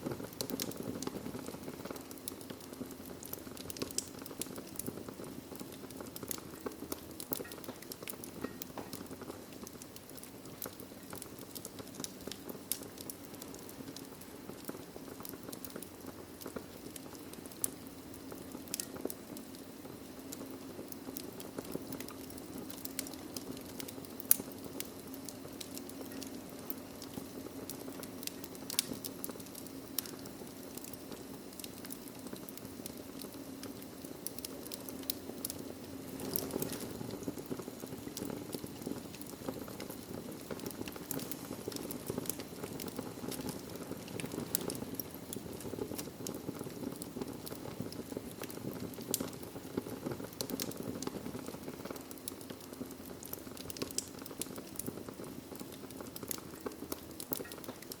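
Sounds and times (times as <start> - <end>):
wood fire crackling in fireplace: 0.0 - 58.0.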